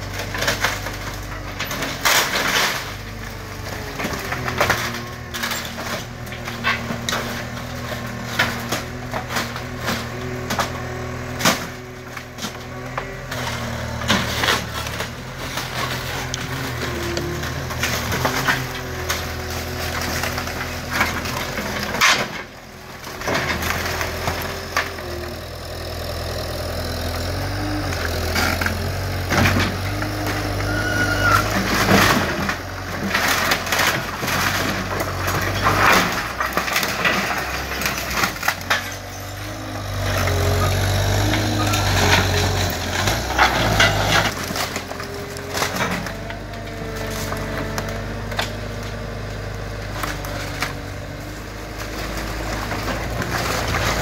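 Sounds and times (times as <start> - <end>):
debris crashing down: 0.0 - 54.0
diesel engine under load: 0.0 - 54.0
wooden framing cracking: 0.0 - 54.0.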